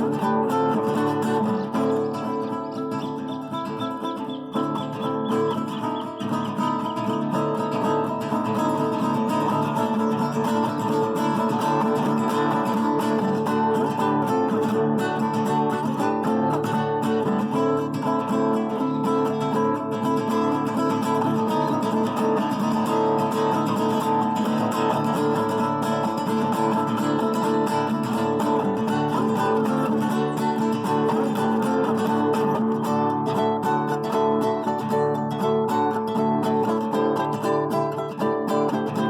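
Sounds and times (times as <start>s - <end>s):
acoustic guitar playing: 0.0s - 39.0s.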